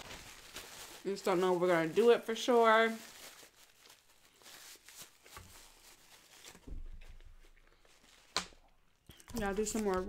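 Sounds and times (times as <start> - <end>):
paper wrapper crackling: 0.0 - 10.0.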